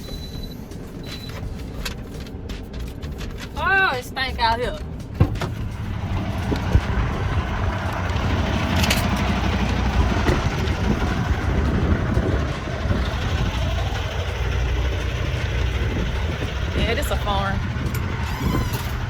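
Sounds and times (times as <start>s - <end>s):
diesel engine drone: 0.0s - 19.0s
road noise: 0.0s - 19.0s.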